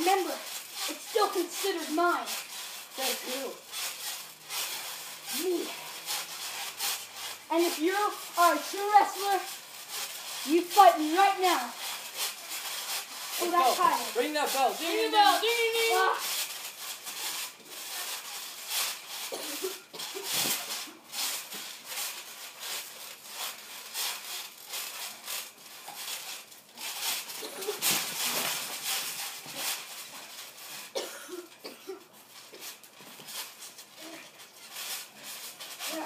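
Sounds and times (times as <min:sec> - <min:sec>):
bodies bumping on trampoline: 0:00.0 - 0:36.0.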